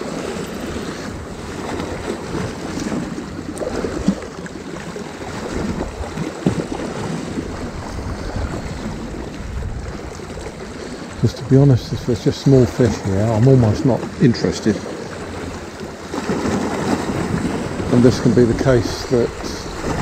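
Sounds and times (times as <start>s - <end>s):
wind buffeting microphone: 0.0s - 14.2s, 14.8s - 20.0s
sea water washing against rocks: 0.0s - 20.0s.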